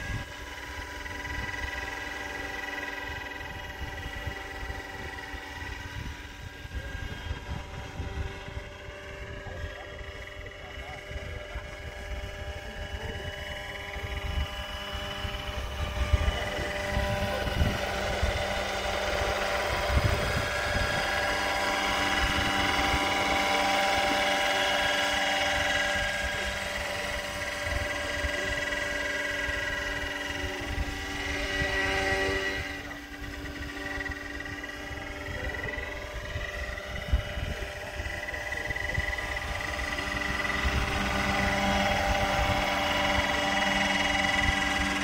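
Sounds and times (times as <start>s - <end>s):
model helicopter rotors whining: 0.0s - 45.0s.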